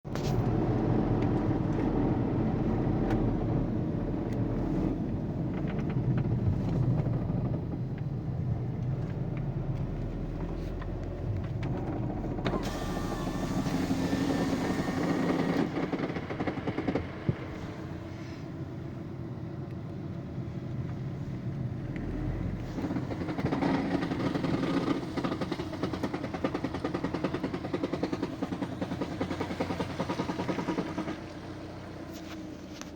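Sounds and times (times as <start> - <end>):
car engine running while driving: 0.1 - 32.9.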